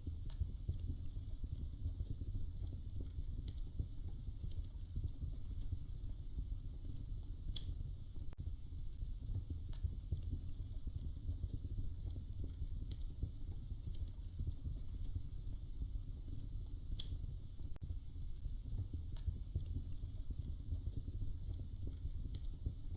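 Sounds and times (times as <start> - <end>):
fire popping and snapping: 0.0 - 22.9
wood fire crackling: 0.0 - 22.9.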